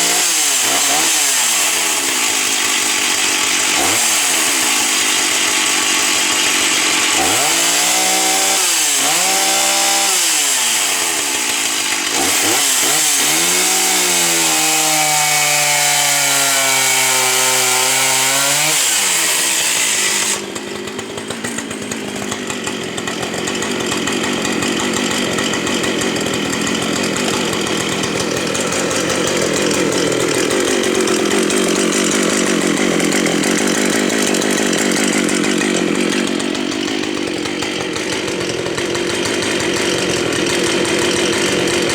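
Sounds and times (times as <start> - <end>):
chainsaw cutting a log: 0.0 - 41.9.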